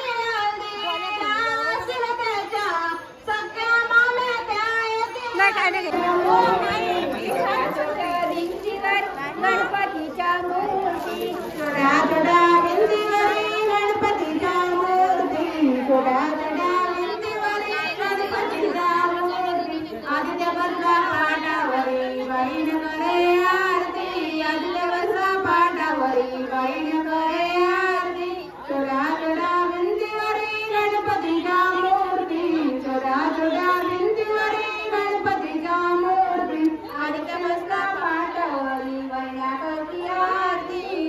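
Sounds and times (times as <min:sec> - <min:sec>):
woman singing unaccompanied: 0:00.0 - 0:41.0.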